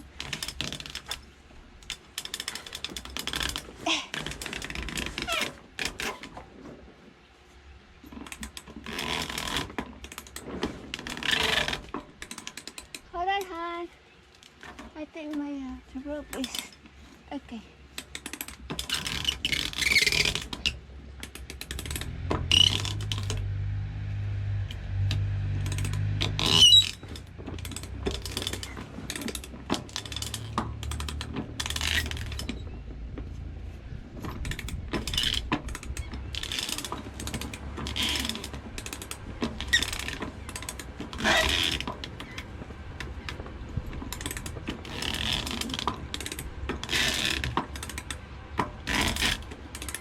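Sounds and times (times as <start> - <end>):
winch ratcheting clicks: 0.2 - 6.4, 8.1 - 13.6, 17.9 - 23.6, 24.6 - 32.7, 34.2 - 50.0.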